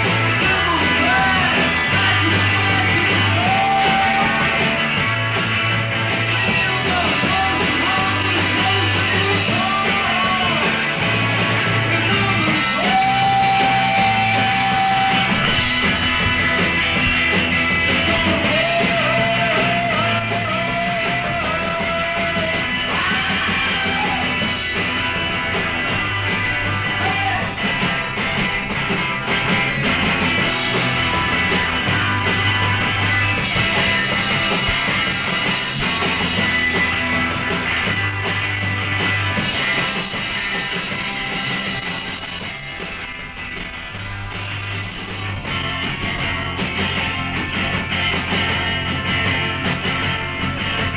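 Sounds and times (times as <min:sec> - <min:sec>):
bass guitar: 0:00.0 - 0:50.9
drums: 0:00.0 - 0:50.9
electric guitars: 0:00.0 - 0:50.9.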